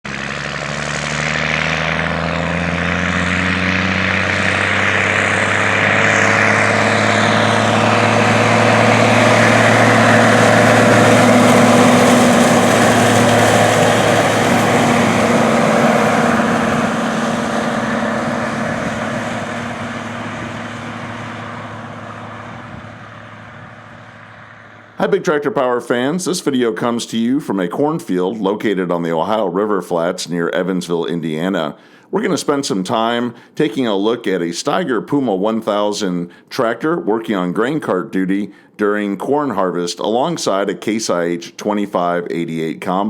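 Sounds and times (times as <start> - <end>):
tractor diesel engine passing: 0.0 - 41.4.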